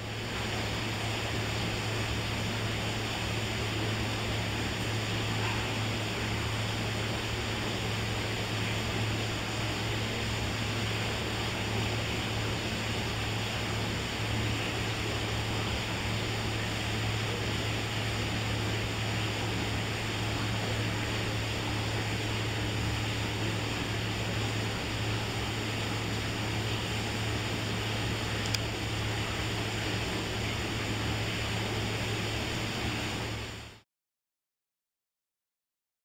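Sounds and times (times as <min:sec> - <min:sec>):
even hiss: 0:00.0 - 0:33.8
low machinery hum: 0:00.0 - 0:33.8.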